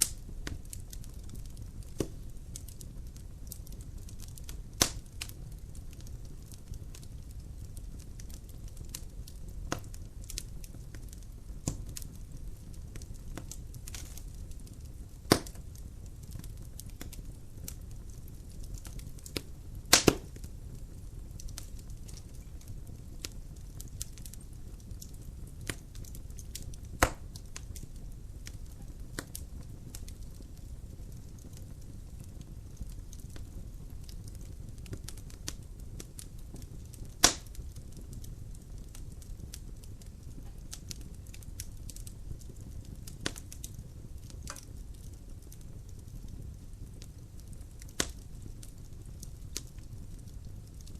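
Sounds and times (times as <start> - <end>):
burning logs crackling and popping: 0.0 - 50.9
low rumble of flames: 0.0 - 50.9.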